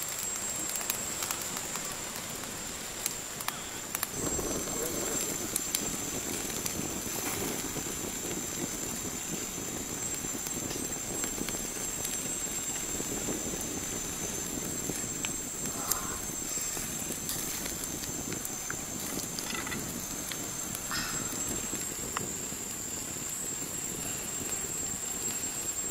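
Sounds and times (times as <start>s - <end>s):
fire burning: 0.0s - 25.9s
fire crackling and popping: 0.0s - 25.9s.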